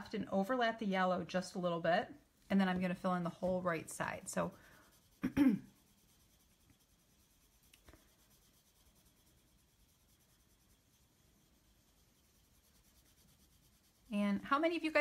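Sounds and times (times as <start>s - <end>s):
pencil scratching on paper: 2.6s - 15.0s.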